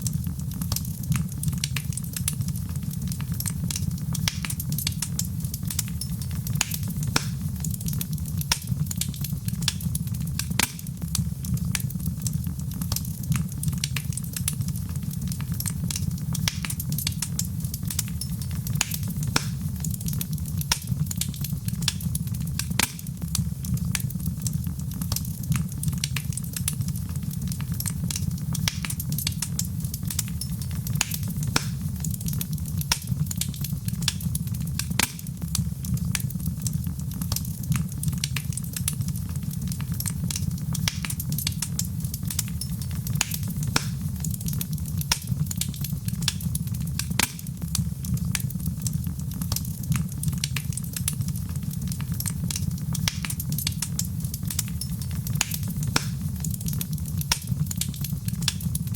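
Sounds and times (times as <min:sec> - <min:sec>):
fire crackling and popping: 0:00.0 - 0:58.9
wood fire rumbling: 0:00.0 - 0:58.9.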